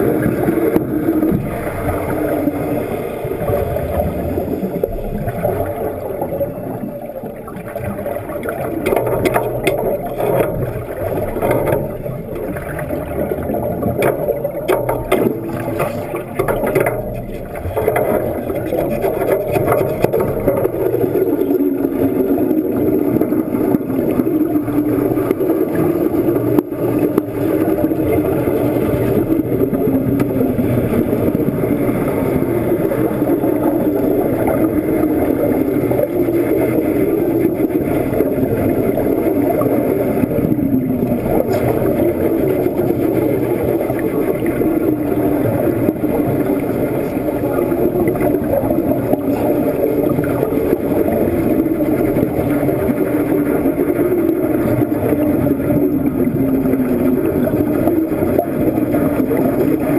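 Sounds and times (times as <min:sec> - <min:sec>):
underwater bubbling and rumble: 0:00.0 - 0:59.9.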